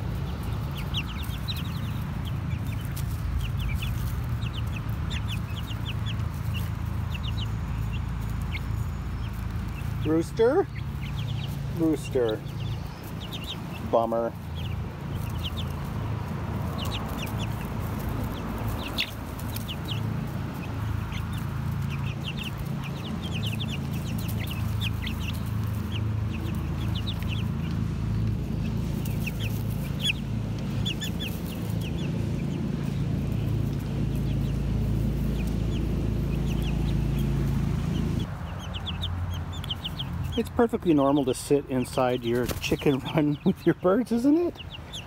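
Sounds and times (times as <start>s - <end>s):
chicks peeping and clucking: 0.0s - 45.0s.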